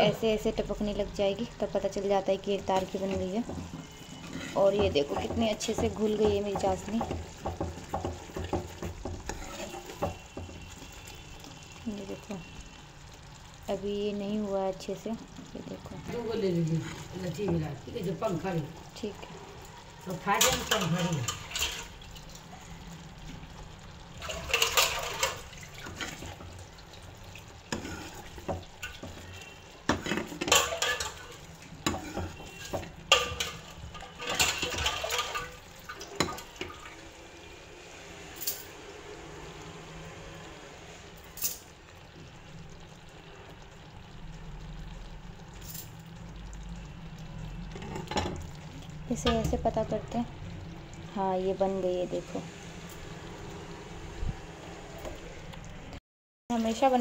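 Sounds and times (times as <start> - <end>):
syrup bubbling: 0.1 - 38.1, 38.8 - 51.9.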